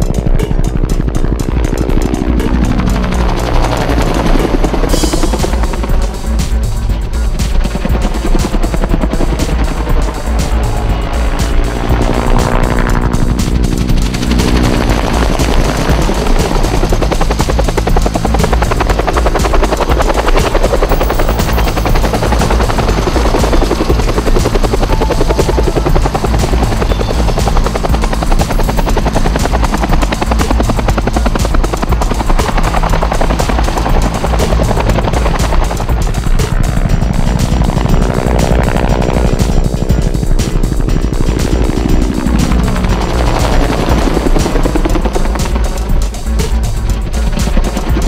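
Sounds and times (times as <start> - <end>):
helicopter rotor beating: 0.0 - 48.0
helicopter turbine engine: 0.0 - 48.0.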